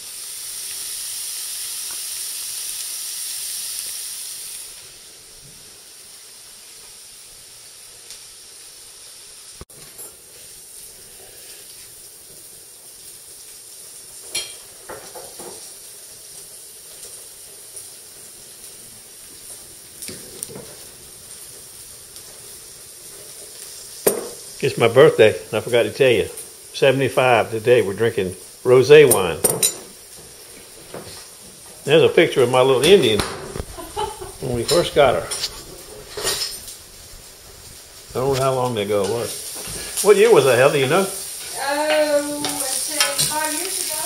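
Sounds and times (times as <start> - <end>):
food sizzling in a frying pan: 0.0 - 44.0.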